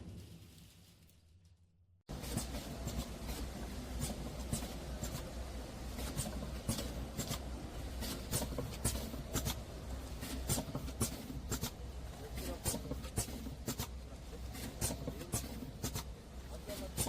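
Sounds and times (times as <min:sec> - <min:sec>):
packaging machine humming: 0:02.1 - 0:17.0.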